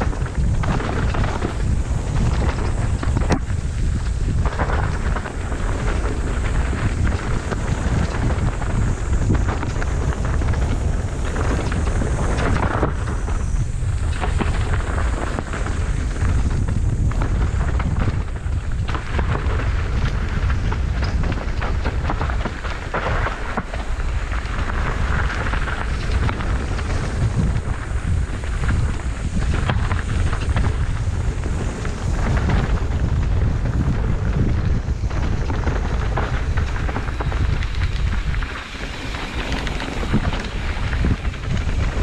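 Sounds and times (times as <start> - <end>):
bike tyres on rough trail: 0.0 - 42.0
wind buffeting microphone: 0.0 - 42.0.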